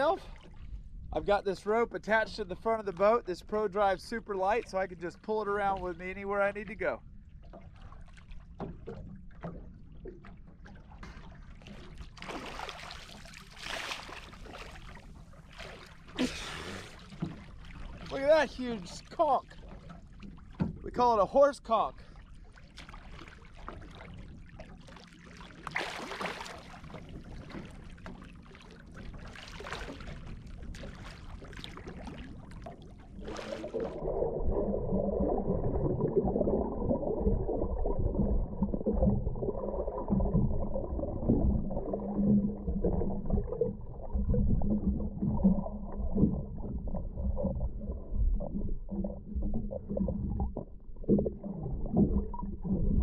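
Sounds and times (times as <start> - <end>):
underwater rumble and gurgling: 0.0 - 53.0
water splashing: 2.5 - 53.0.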